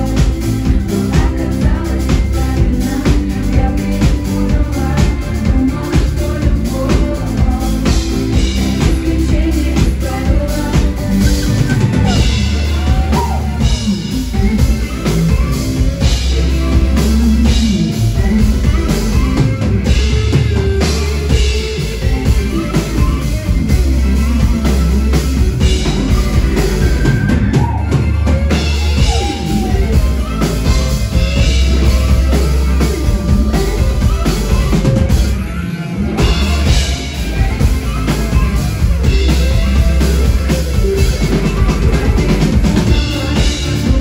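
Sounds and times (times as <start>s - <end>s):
drum kit beat: 0.0s - 44.0s
electric guitar: 0.0s - 44.0s
woman singing: 0.0s - 44.0s.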